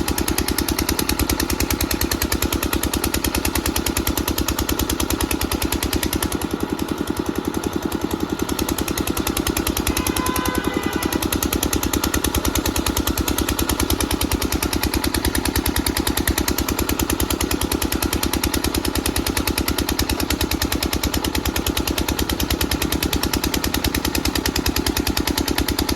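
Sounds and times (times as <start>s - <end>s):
portable generator engine running: 0.0s - 25.9s.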